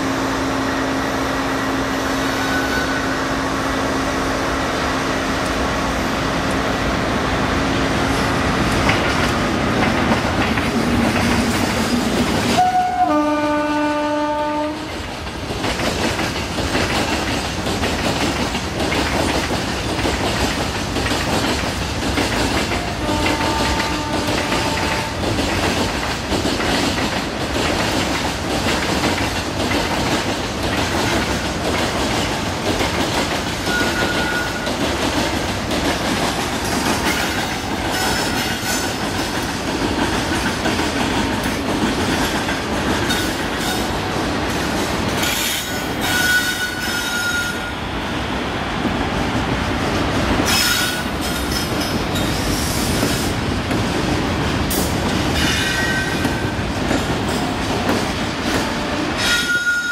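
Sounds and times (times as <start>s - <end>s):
freight train wheels clacking: 7.6s - 59.9s.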